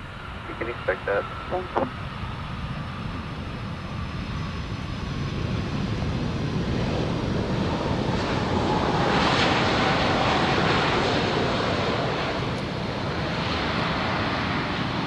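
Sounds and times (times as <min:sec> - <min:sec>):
faint engine whine: 0:00.0 - 0:15.0
jet engines rushing: 0:00.0 - 0:15.0.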